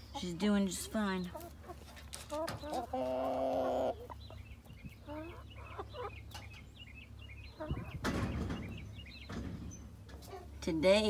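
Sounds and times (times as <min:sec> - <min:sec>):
hens clucking and chirping: 0:00.0 - 0:11.0.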